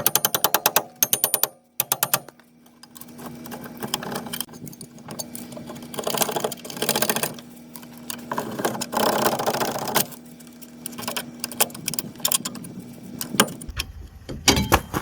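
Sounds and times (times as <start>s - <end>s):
rapid metal clicks: 0.0s - 13.7s
steady low hum: 0.0s - 15.0s
metal rattling and scraping: 2.2s - 15.0s.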